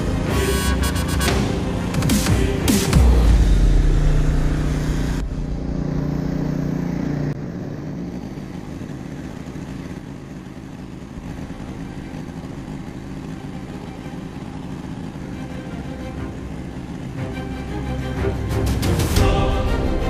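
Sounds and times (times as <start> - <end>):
snowblower engine drone: 0.0 - 20.0.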